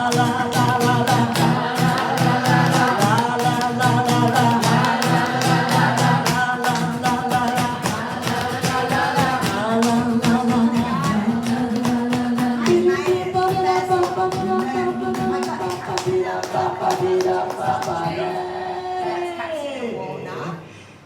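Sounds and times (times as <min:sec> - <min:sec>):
rhythmic accompaniment: 0:00.0 - 0:18.4
person singing wordless melody: 0:00.0 - 0:19.3.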